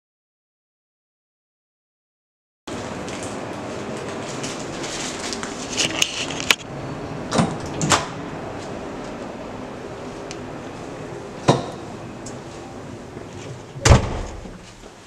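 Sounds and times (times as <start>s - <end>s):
room hum: 2.7s - 15.0s.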